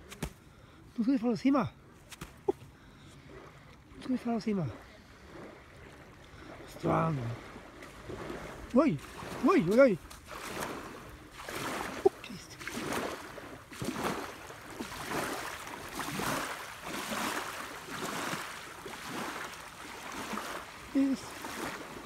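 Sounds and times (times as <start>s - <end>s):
small waves lapping on beach: 0.0s - 22.0s.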